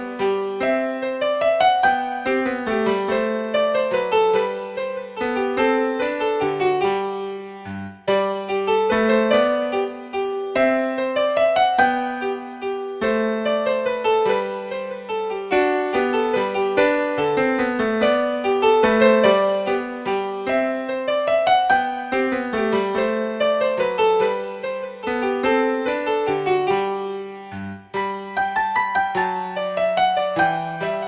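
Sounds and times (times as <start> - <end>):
gentle piano melody: 0.0 - 31.0.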